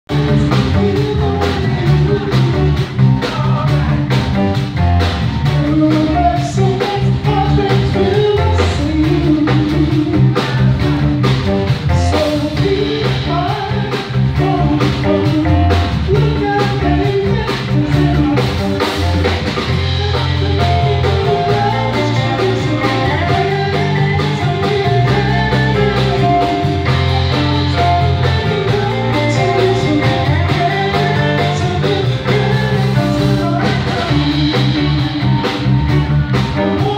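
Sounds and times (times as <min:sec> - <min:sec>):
bass line: 0:00.0 - 0:36.9
drum kit beat: 0:00.1 - 0:36.9
guitar: 0:00.1 - 0:36.9.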